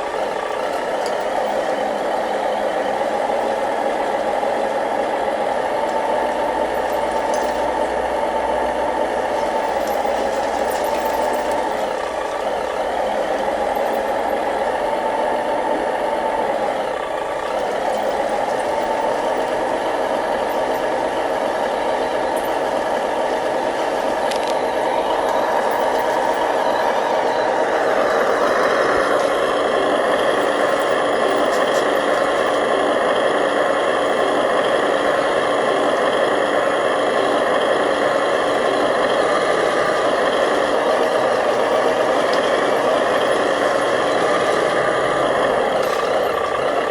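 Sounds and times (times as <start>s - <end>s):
remote-control model machine running: 0.0s - 46.9s.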